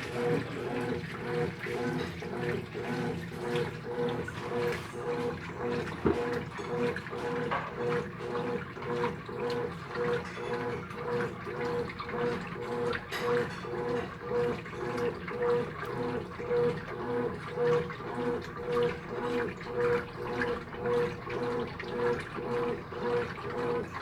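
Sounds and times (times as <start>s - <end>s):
pulsing motor hum: 0.0s - 24.0s
water sloshing in washing machine: 0.0s - 24.0s.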